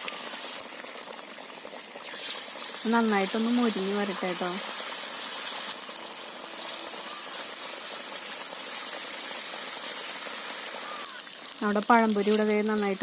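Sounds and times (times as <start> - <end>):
batter deep-frying in oil: 0.0 - 13.0.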